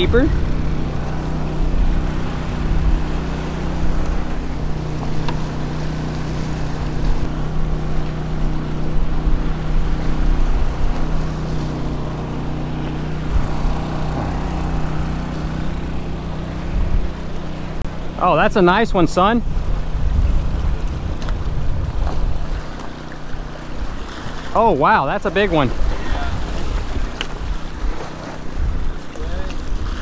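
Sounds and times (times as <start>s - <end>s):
wind rumbling on microphone: 0.0s - 24.6s, 25.2s - 30.0s
portable generator droning: 0.0s - 30.0s.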